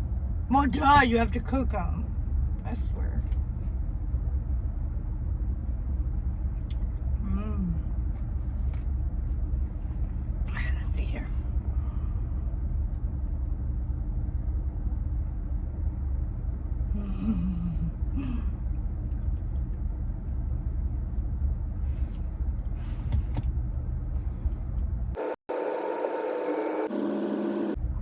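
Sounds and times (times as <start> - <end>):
steady low rumble: 0.0 - 25.2, 27.7 - 28.0.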